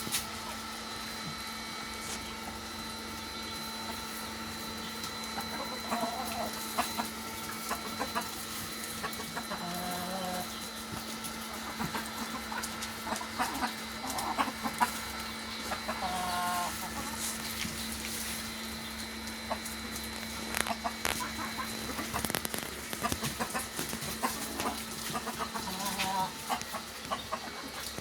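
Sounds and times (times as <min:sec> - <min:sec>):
chickens clucking: 0:00.0 - 0:28.0
steady low hum: 0:00.0 - 0:28.0
drawn-out chicken call: 0:02.1 - 0:28.0.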